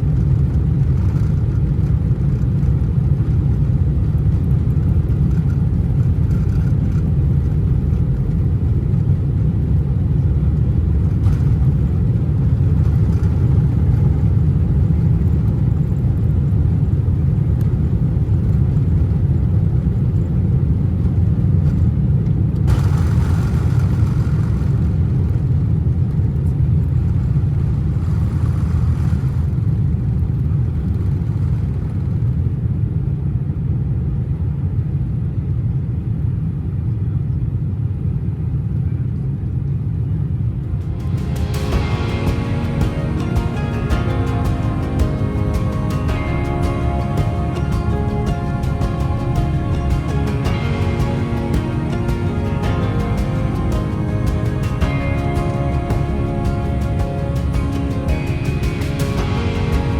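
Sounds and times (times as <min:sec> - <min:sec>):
airplane cabin engine rumble: 0:00.0 - 0:32.4, 0:38.9 - 0:59.9.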